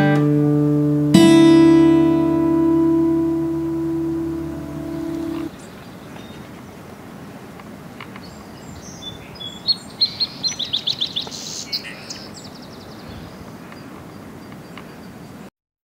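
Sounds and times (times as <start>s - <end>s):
steady background noise: 1.0s - 15.5s
songbird singing: 1.2s - 15.5s.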